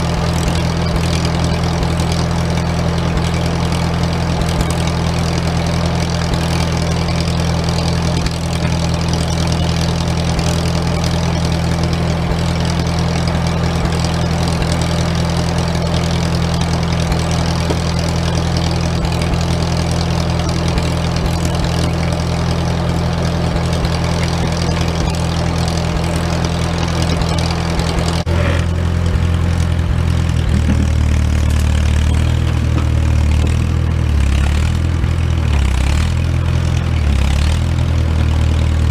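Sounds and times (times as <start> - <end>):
large engine running: 0.0 - 38.9.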